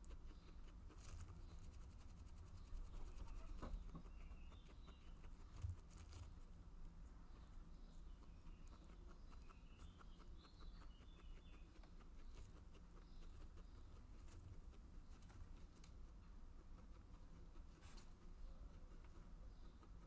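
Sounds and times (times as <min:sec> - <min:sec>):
guinea pig chewing leaves: 0:00.0 - 0:20.0
low steady hum: 0:00.0 - 0:20.0.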